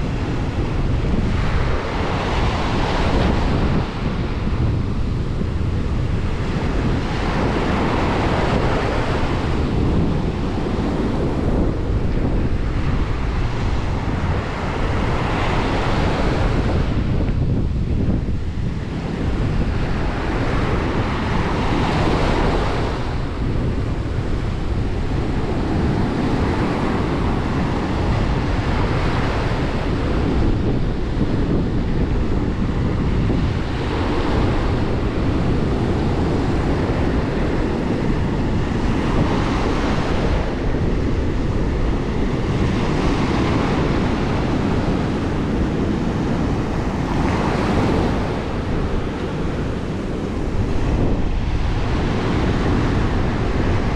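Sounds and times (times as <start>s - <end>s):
low rumble of surf: 0.0s - 53.9s
ocean waves breaking on shore: 0.0s - 53.9s
wind buffeting microphone: 0.0s - 53.9s.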